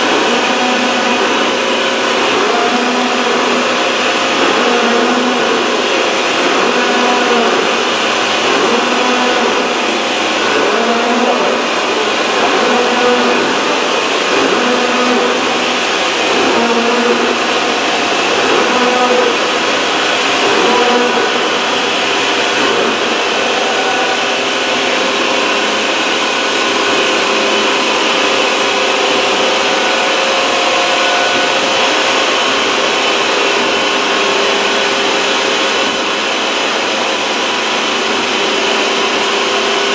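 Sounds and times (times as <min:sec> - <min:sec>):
machine tool cutting steel: 0:00.0 - 0:39.9
wavering machine hum: 0:00.0 - 0:39.9.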